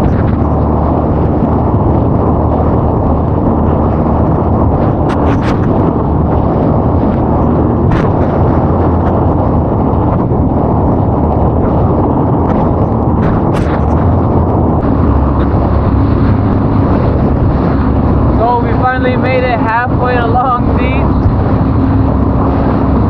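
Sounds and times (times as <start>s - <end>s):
jet ski engine rumble: 0.0s - 23.0s
wind buffeting microphone: 0.0s - 23.0s.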